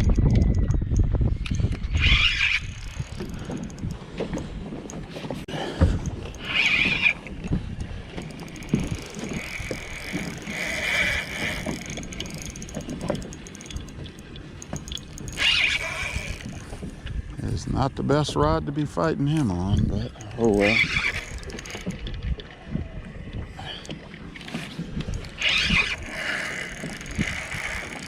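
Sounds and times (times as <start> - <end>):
wind noise: 0.0 - 23.9, 24.5 - 28.0
water noise: 0.0 - 28.0.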